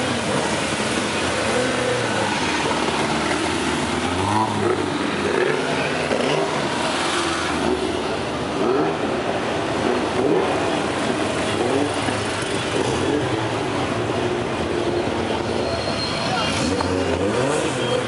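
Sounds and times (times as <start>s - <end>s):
racing car engines blipping: 0.0s - 18.0s.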